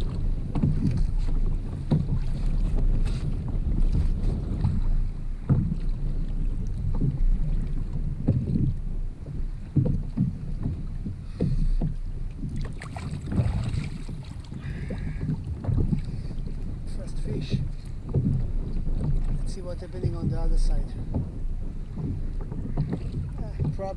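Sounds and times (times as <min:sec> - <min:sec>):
water splashing against kayak: 0:00.0 - 0:23.9
wind rumbling on microphone: 0:00.0 - 0:23.9.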